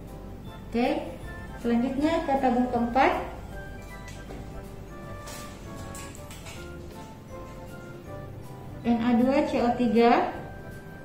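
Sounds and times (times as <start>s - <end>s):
soft music with held notes: 0.0s - 11.0s.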